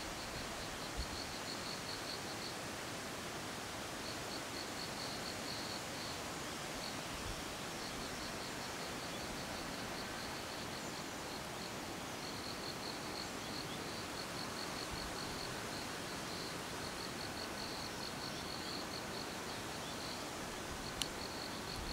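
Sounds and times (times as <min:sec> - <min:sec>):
insects chirring: 0:00.0 - 0:02.6, 0:04.0 - 0:21.9
background hiss: 0:00.0 - 0:21.9.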